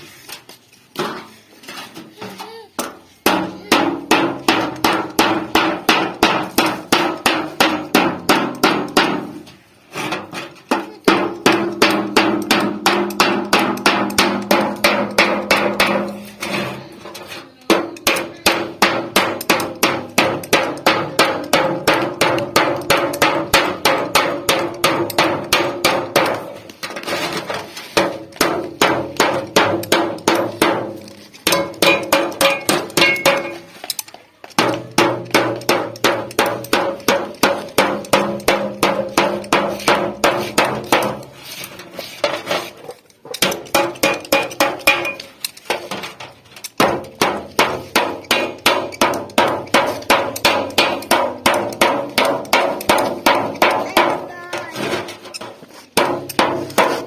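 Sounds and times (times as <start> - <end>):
hammer beating sheet metal: 2.8 - 33.8, 34.6 - 42.8, 43.4 - 57.0.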